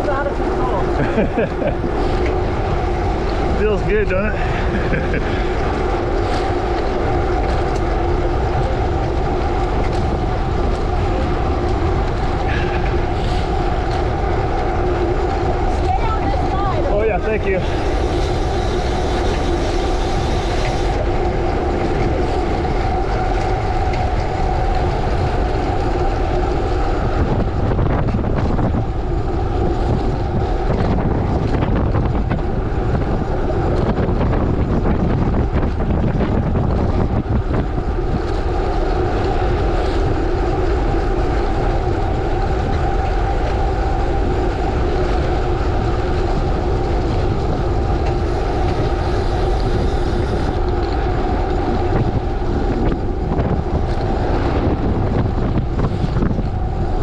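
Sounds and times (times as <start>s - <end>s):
bicycle tyres rolling on gravel: 0.0s - 57.0s
bike rattling: 0.0s - 57.0s
wind on microphone: 0.0s - 57.0s.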